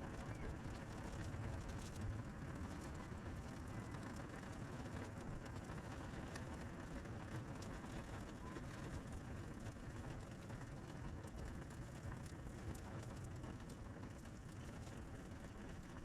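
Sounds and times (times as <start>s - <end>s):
fire burning with low rush: 0.0s - 16.0s
fire crackling and popping: 0.1s - 16.0s.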